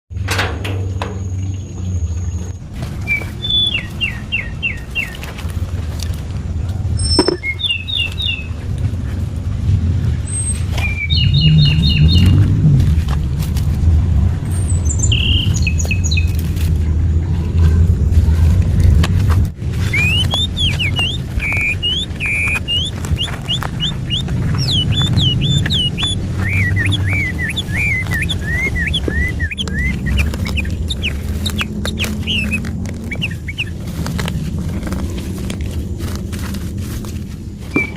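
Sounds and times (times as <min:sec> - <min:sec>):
steady low rumble: 0:00.1 - 0:37.9
songbird singing: 0:00.9 - 0:06.2, 0:06.8 - 0:09.2, 0:10.2 - 0:13.0, 0:14.3 - 0:16.7, 0:19.6 - 0:37.9.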